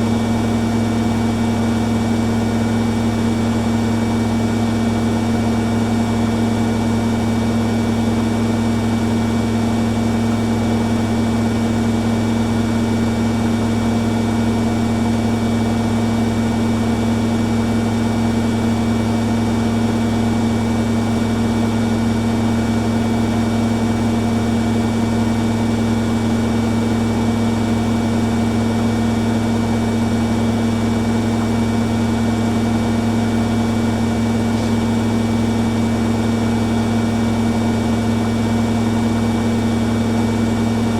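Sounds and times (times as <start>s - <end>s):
washing machines spinning: 0.0s - 40.9s.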